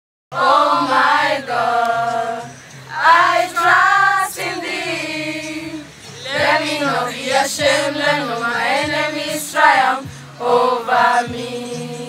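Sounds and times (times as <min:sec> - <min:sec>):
women singing together: 0:00.3 - 0:12.0.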